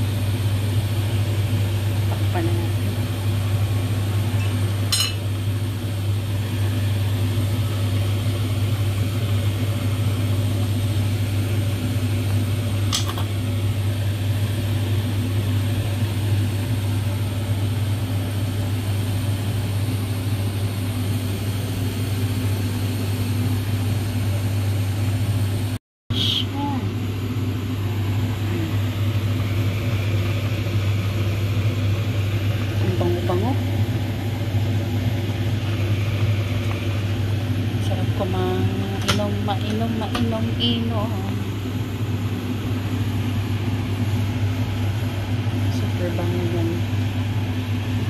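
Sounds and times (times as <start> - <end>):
fan motor humming: 0.0 - 48.0.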